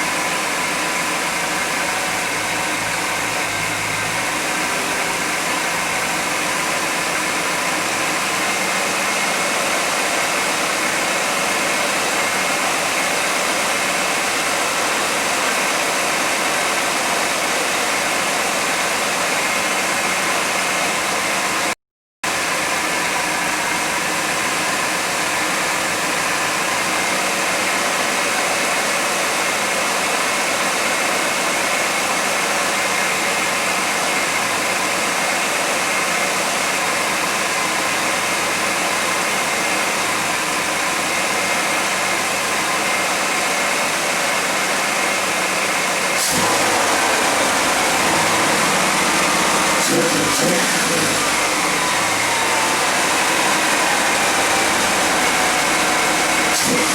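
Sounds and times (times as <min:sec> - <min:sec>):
car engine idling: 0:00.0 - 0:21.7, 0:22.3 - 0:56.9.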